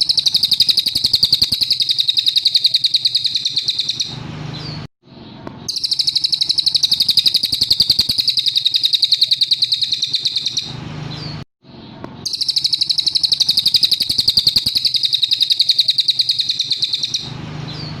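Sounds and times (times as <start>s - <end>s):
songbird high trills: 0.0s - 4.8s, 5.7s - 11.3s, 12.3s - 18.0s.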